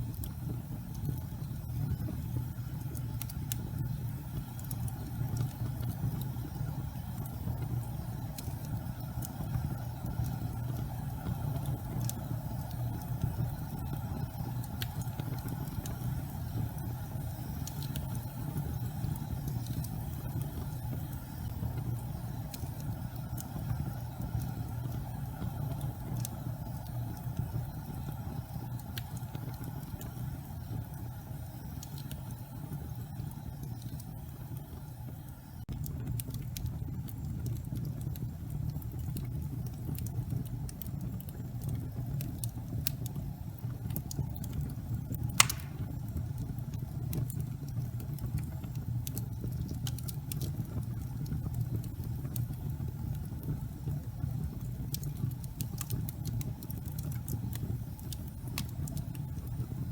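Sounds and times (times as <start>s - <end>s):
fire burning low rumble: 0.0s - 59.9s
fire crackling: 0.0s - 59.9s.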